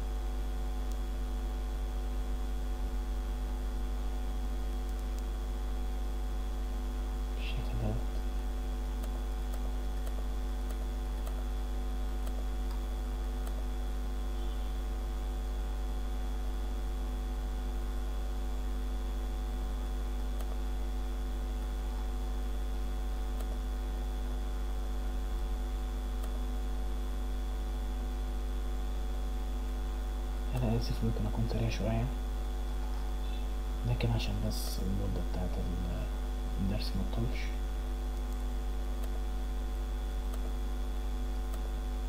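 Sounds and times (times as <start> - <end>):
electrical mains hum: 0.0 - 42.0
faint high whine: 0.0 - 42.0.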